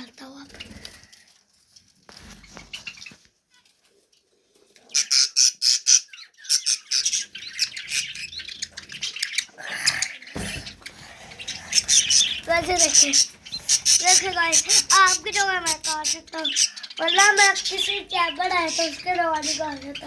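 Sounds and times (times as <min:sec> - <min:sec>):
budgies squawking and chirping: 0:02.2 - 0:20.0.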